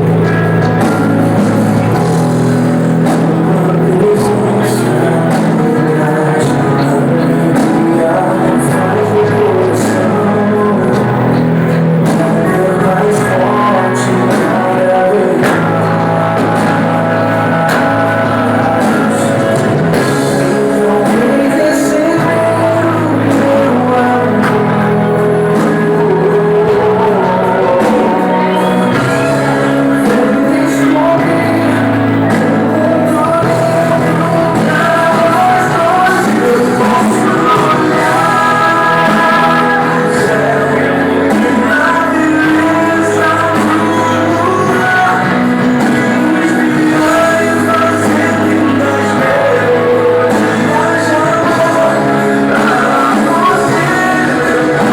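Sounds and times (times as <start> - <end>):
song with singing over instruments: 0.0 - 54.9.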